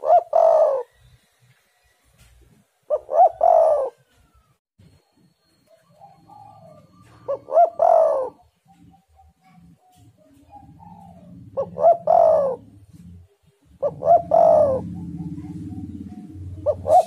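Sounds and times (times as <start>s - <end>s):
dove cooing: 0.0s - 1.1s, 2.9s - 4.5s, 5.7s - 17.0s.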